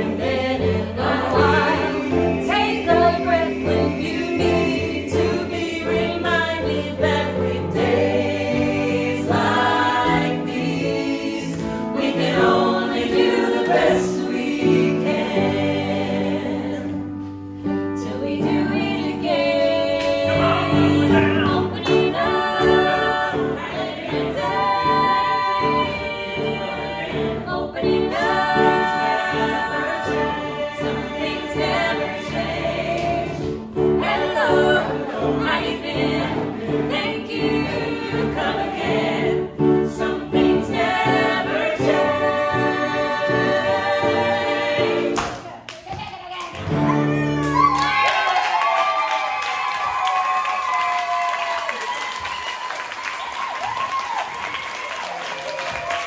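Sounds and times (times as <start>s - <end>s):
mixed choir singing in harmony: 0.0s - 45.6s.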